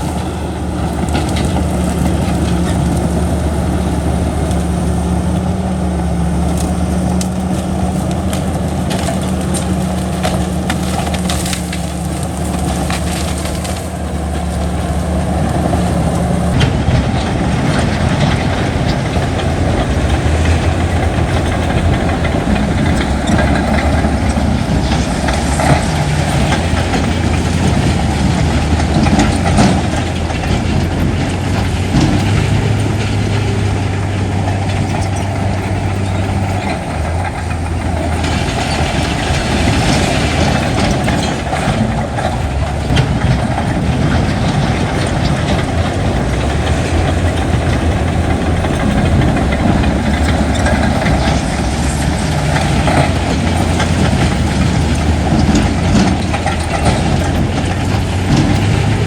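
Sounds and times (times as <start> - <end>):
diesel machinery engine hum: 0.0 - 59.0
machinery clattering: 0.0 - 59.0.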